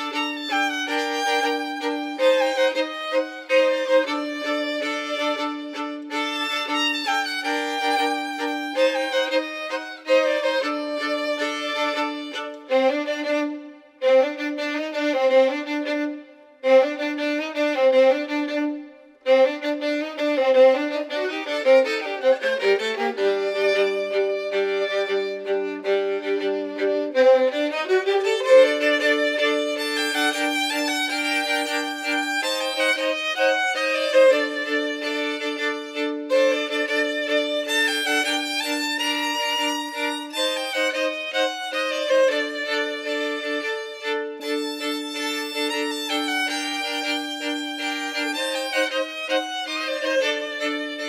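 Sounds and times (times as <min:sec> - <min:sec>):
violin folk melody: 0:00.0 - 0:51.0.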